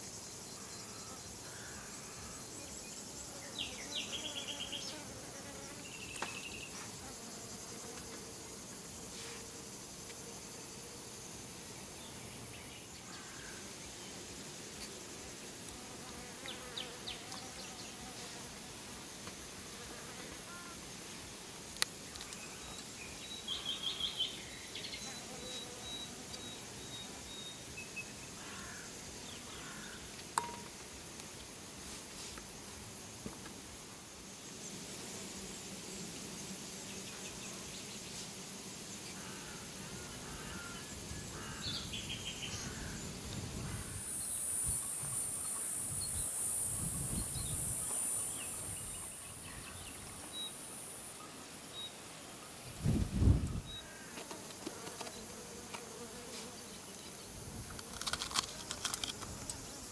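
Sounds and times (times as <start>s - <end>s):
insects hissing: 0.0s - 59.9s.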